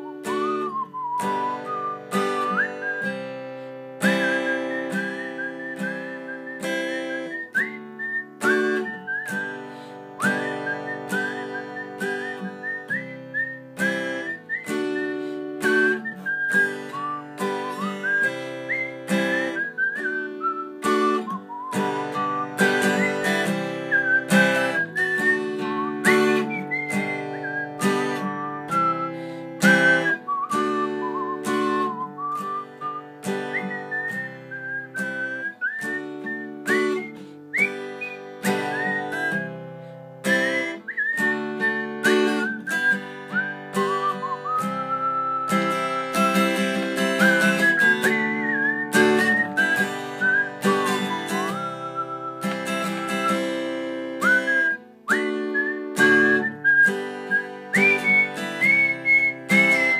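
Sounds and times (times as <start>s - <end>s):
acoustic guitar strumming: 0.0s - 59.9s
woman whistling a melody: 0.0s - 59.9s.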